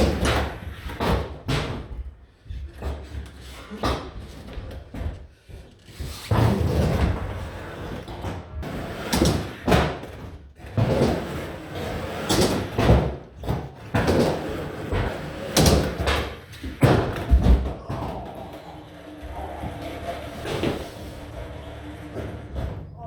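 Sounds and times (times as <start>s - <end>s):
skateboard clacks and thuds: 0.0s - 23.0s
skateboard rolling on ramps: 0.0s - 23.0s.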